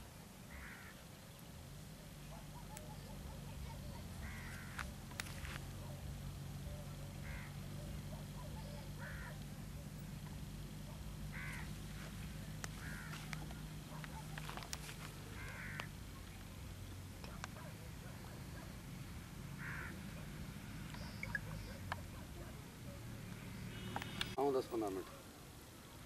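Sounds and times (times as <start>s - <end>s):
steady low hum: 0.0s - 24.4s
bird calling: 0.5s - 18.8s, 19.6s - 25.3s.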